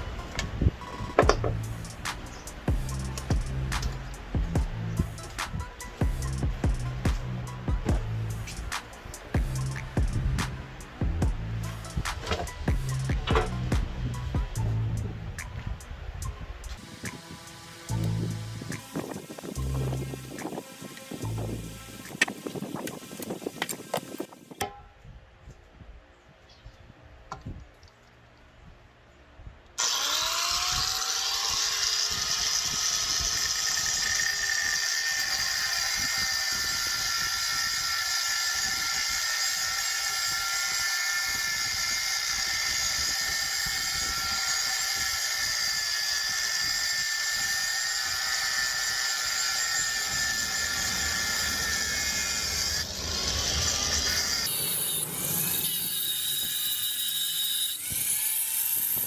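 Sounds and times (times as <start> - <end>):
power tool cutting metal: 0.0 - 15.8, 16.6 - 24.6, 29.8 - 59.0.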